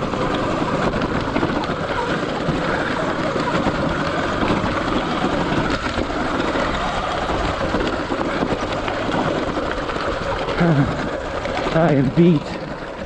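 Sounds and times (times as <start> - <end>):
tyres crunching over stones: 0.0 - 13.0.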